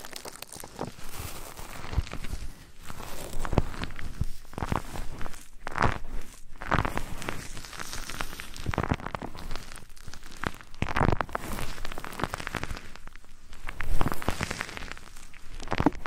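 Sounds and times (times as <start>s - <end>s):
crackling and rustling: 0.0s - 16.0s.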